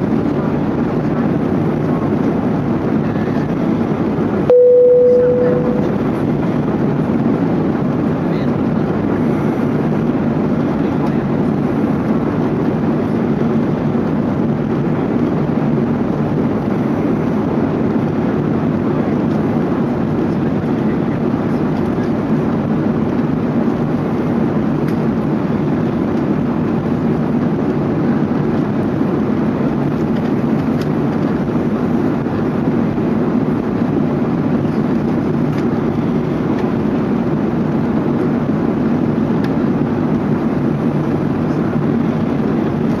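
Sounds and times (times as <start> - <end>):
aircraft cabin engine roar: 0.0 - 43.0.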